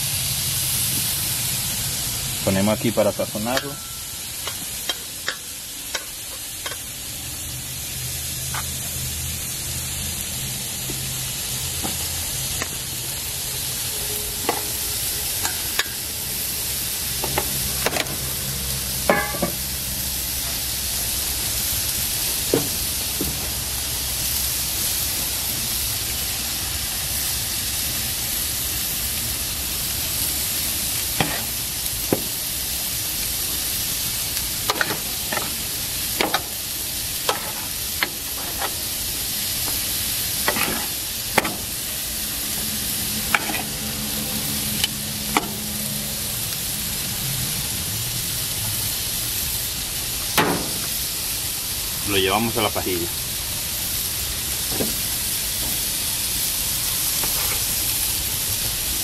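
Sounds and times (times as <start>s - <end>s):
steaks sizzling on grill: 0.0s - 59.0s.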